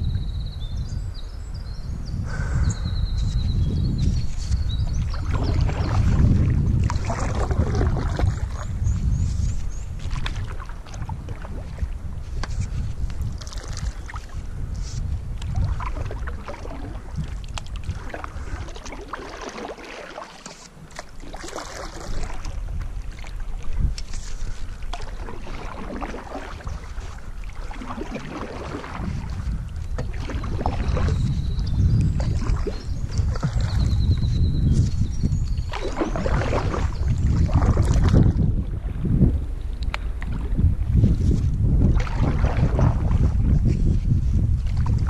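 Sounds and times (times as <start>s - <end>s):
paddle splashing in water: 4.0s - 45.0s.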